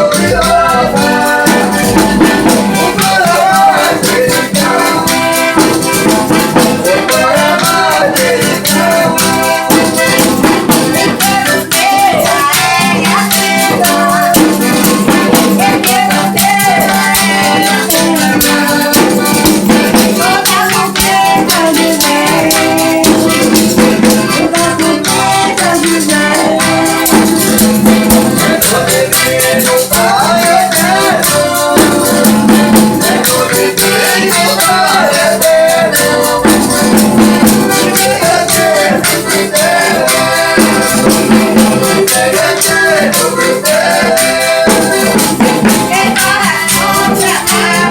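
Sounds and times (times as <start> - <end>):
folk singing voices: 0.0 - 47.9
shaken rattles and tambourine: 0.0 - 47.9.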